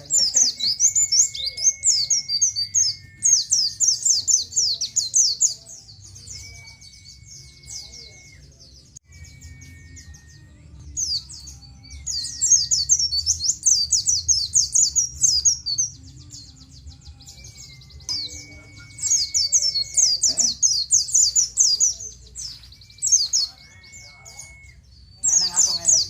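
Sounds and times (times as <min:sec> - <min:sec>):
bird twittering chirps: 0:00.0 - 0:26.0.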